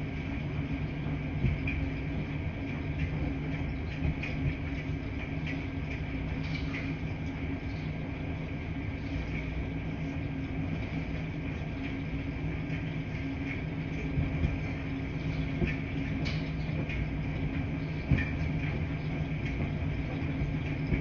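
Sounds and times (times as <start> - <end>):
washing machines humming: 0.0 - 21.0.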